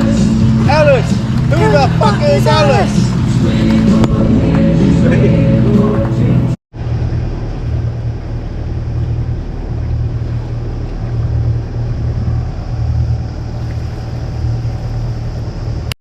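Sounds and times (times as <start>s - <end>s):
boat engine drone: 0.0s - 16.0s
water and wind rushing: 0.0s - 16.0s.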